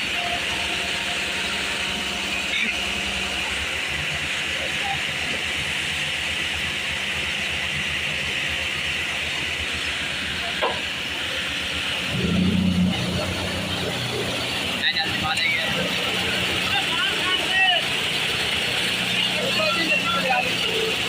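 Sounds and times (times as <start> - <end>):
paving machinery engine hum: 0.0 - 21.0.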